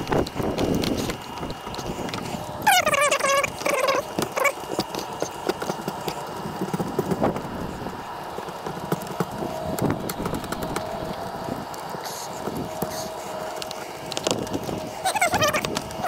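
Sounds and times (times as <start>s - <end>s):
hands handling tape: 0.0s - 16.0s.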